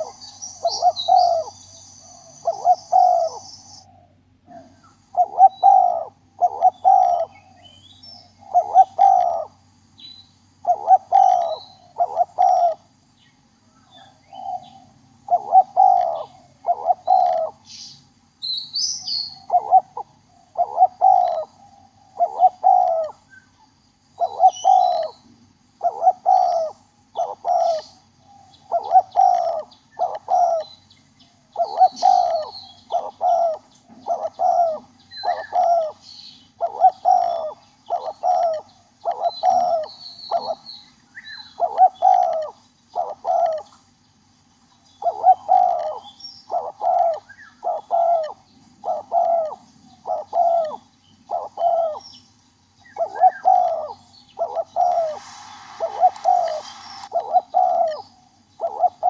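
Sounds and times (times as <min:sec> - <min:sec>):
dove cooing: 0:00.0 - 0:09.6, 0:10.6 - 0:12.9, 0:14.0 - 0:17.6, 0:19.2 - 0:23.2, 0:24.2 - 0:25.2, 0:25.8 - 0:30.7, 0:31.4 - 0:36.0, 0:36.6 - 0:40.6, 0:41.4 - 0:43.8, 0:45.0 - 0:52.0, 0:52.9 - 0:59.0
small birds chirping: 0:00.0 - 0:59.0.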